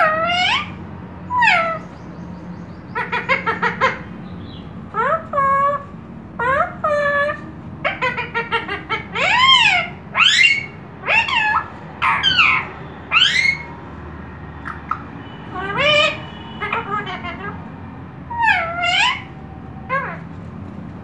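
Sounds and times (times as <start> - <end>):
parakeet calling: 0.0 - 20.3.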